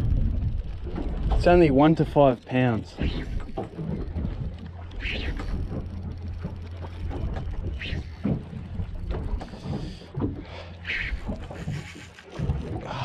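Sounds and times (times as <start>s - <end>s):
reel gears ticking: 0.0s - 12.6s
low rumble: 0.0s - 13.0s.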